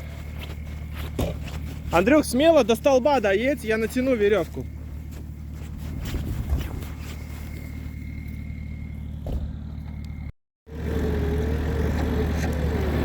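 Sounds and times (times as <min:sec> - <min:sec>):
off-road engine running: 0:00.0 - 0:13.0.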